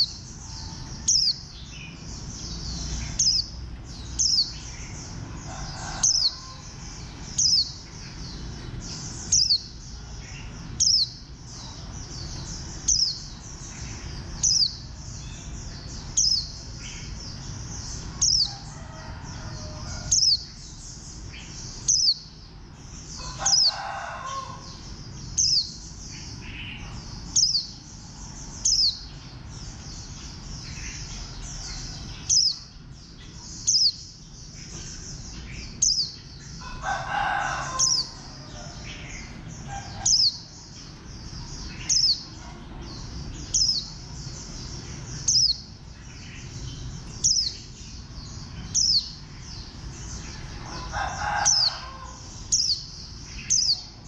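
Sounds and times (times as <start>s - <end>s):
bird twittering song: 0.0s - 54.0s.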